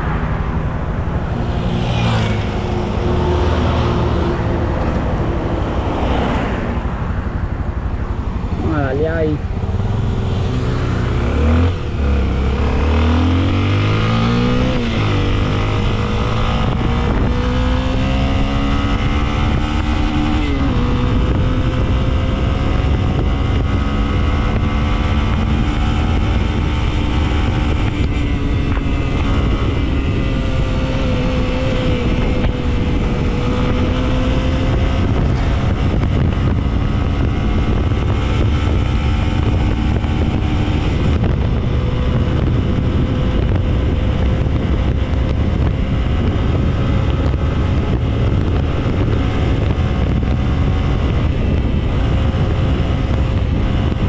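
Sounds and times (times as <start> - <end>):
wind rush on microphone: 0.0 - 54.0
motorcycle engine revving: 8.4 - 54.0.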